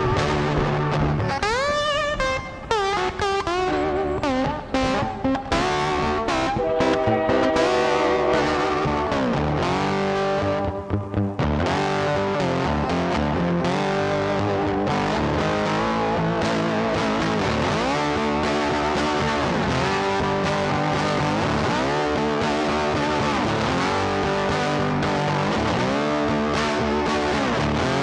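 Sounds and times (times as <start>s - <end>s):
electric guitar music: 0.0s - 28.0s.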